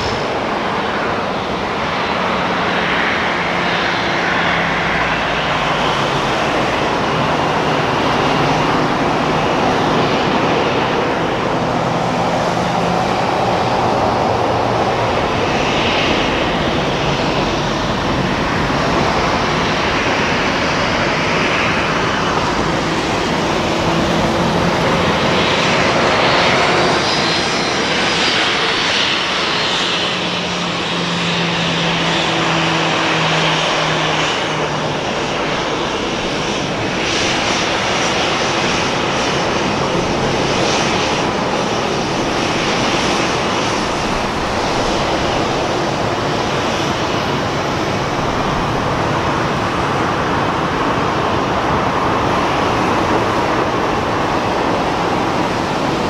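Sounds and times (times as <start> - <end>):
jet airliner taxiing: 0.0 - 56.0.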